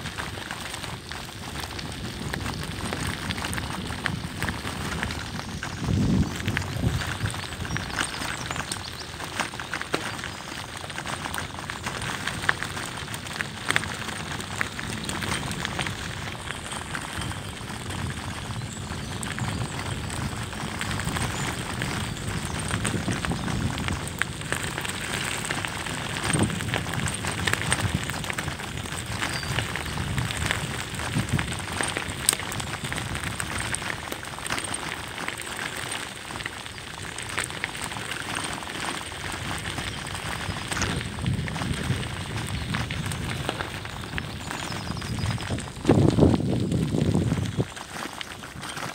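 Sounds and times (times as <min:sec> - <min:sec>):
bicycle tyres crunching on gravel: 0:00.0 - 0:48.9.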